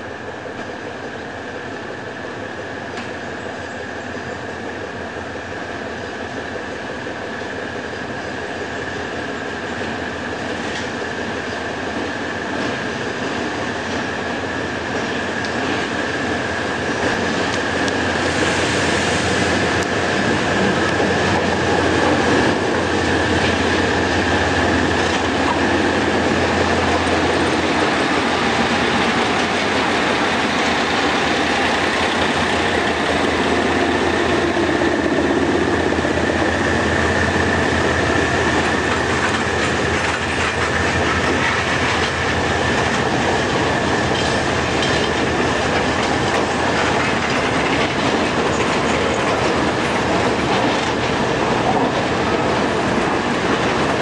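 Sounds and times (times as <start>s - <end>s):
train wheels clacking on rails: 0.0s - 54.0s.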